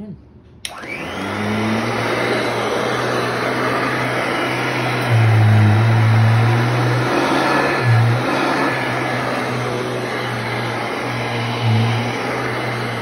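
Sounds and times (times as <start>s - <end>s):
vacuum cleaner running: 0.7s - 13.0s.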